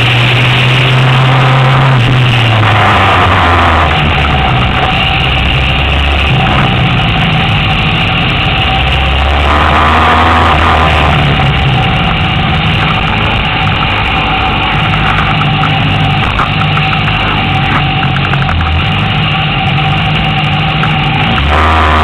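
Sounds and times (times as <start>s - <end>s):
motorcycle engine at low revs: 0.0s - 22.0s.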